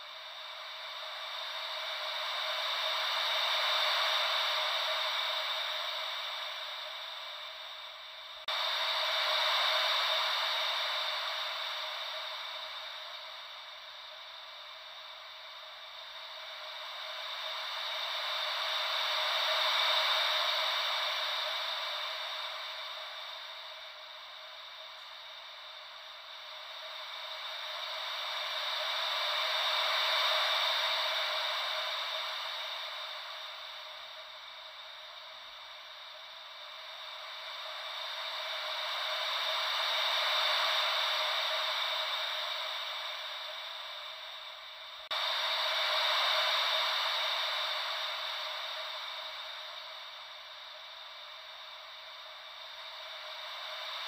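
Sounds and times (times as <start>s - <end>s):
ocean wave white noise hiss: 0.0s - 54.0s.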